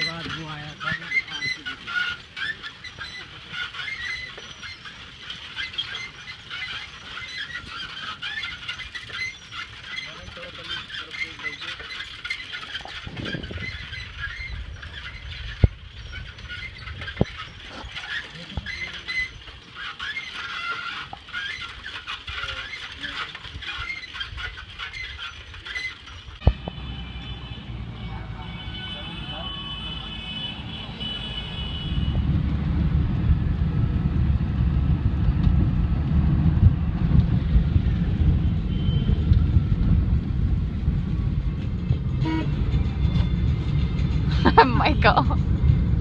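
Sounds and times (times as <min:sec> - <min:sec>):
bicycle rolling on paved road: 0:00.0 - 0:46.0.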